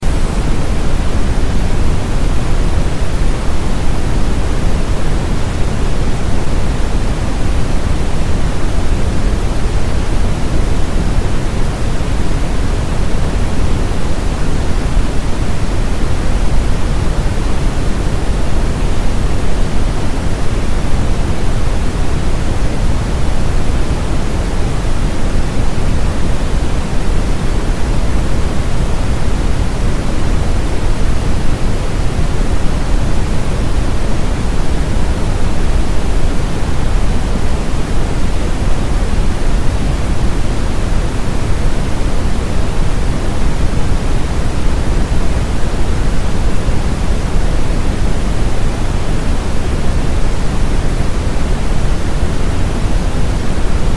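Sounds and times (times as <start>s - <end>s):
brown noise deep rushing hiss: 0.0s - 53.9s.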